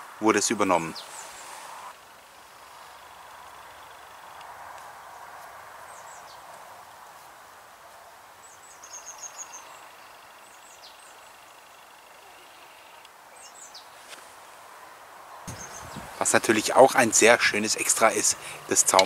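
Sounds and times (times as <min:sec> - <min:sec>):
steady hiss: 0:00.0 - 0:19.0
small birds chirping: 0:00.4 - 0:06.6, 0:08.0 - 0:14.3, 0:15.4 - 0:19.0.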